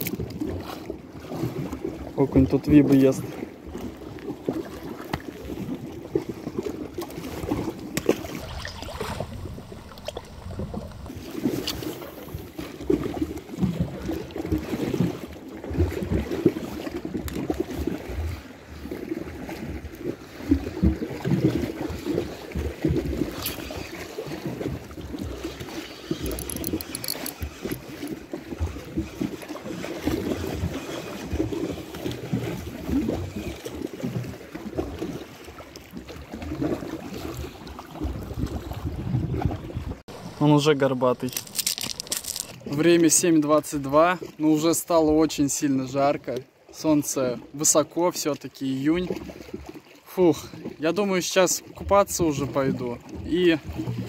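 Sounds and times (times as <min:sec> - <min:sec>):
river water lapping and splashing: 0:00.0 - 0:54.0.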